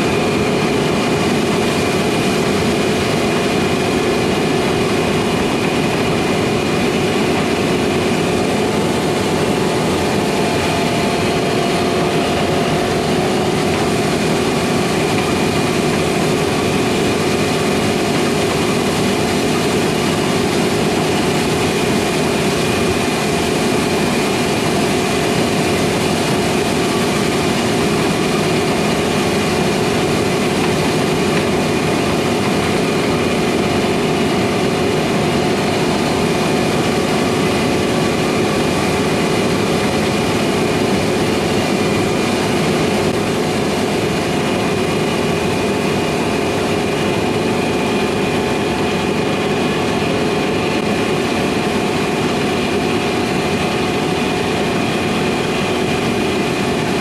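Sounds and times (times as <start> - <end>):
diesel machinery engine noise: 0.0 - 57.0.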